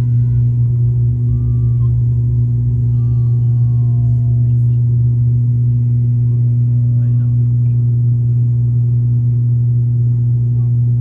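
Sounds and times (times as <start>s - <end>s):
propeller hum with rumble: 0.0s - 11.0s.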